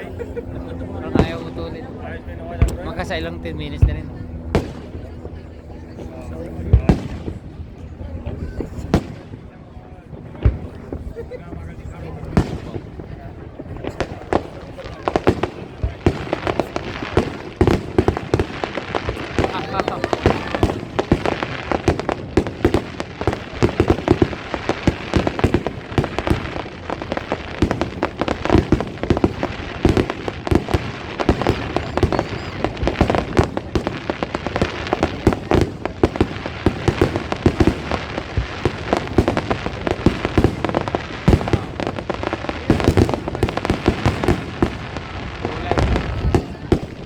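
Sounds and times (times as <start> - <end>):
fireworks bangs and crackling: 0.0 - 47.0
fireworks rumble: 0.0 - 47.0.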